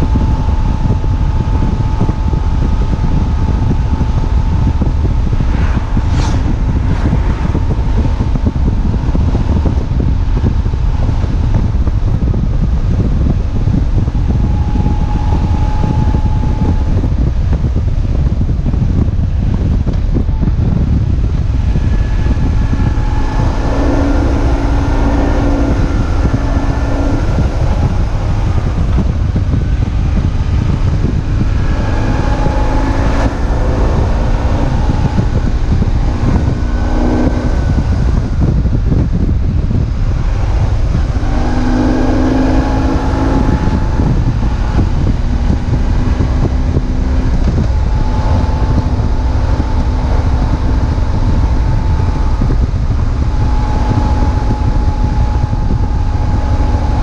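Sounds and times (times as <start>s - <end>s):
motorcycle engine running: 0.0s - 57.0s
wind buffeting on microphone: 0.0s - 57.0s.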